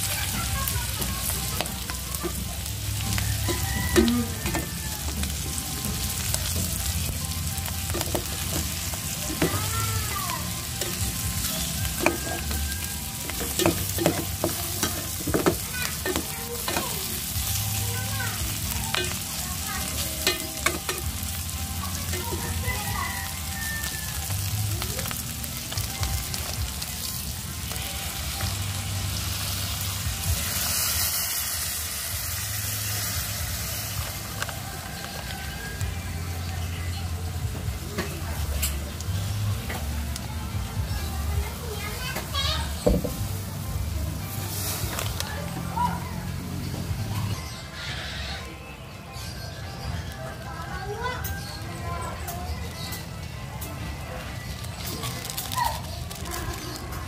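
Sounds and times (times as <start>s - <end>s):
meat sizzling in a pot: 0.0s - 57.0s.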